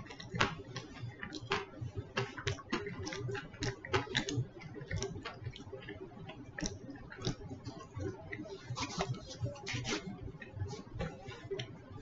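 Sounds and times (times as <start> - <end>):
person chewing crunchy food: 0.0 - 11.8.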